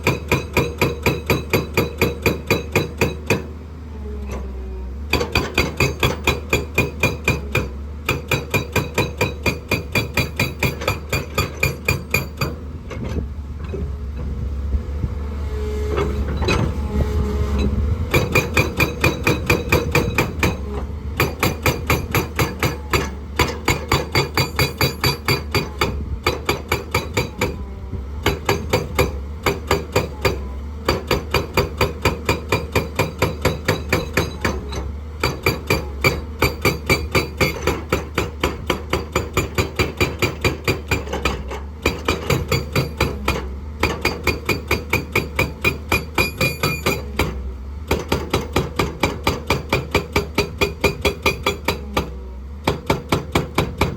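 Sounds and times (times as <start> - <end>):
hydraulic rock breaker hammering: 0.0 - 14.3, 17.6 - 53.9
excavator engine running: 0.0 - 53.9.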